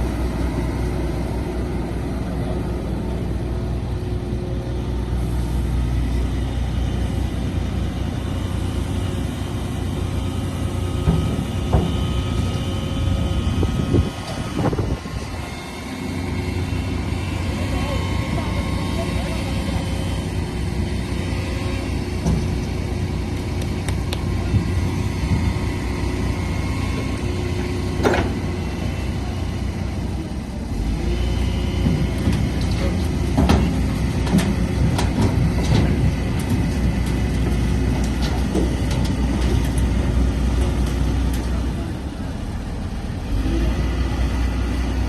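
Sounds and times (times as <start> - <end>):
excavator engine running: 0.0 - 45.0.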